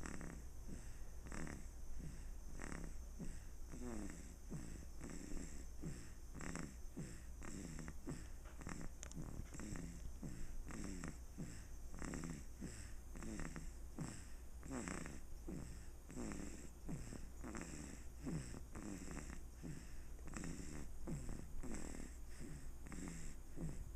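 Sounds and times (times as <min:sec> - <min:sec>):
rhythmic snoring: 0:00.0 - 0:23.9.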